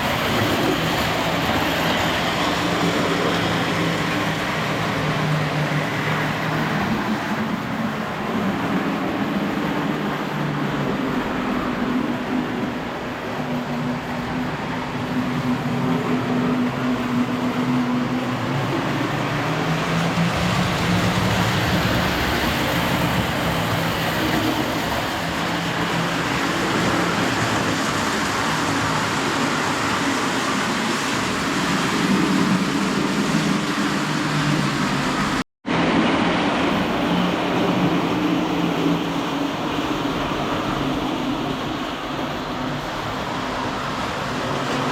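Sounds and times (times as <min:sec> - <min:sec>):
wheels rumbling on rail: 0:00.0 - 0:44.9.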